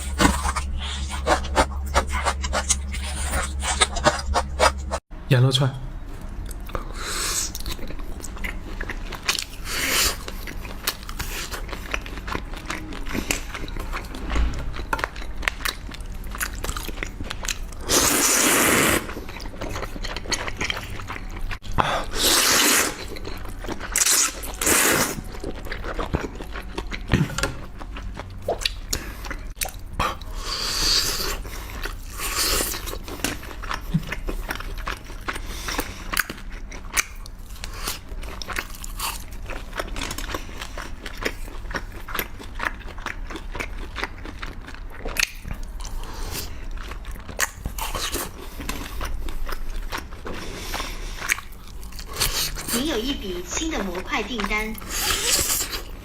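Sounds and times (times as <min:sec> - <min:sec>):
crunchy chewing: 0:06.2 - 0:52.8, 0:54.4 - 0:56.0.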